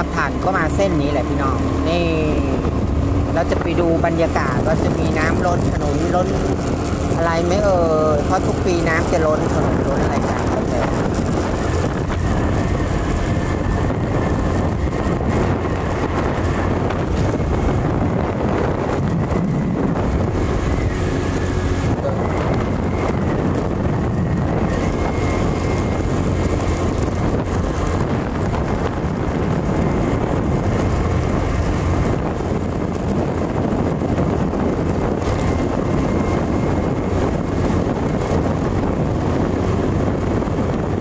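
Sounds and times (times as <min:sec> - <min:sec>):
motorcycle engine humming: 0:00.0 - 0:41.0
wind rushing over microphone: 0:00.0 - 0:41.0.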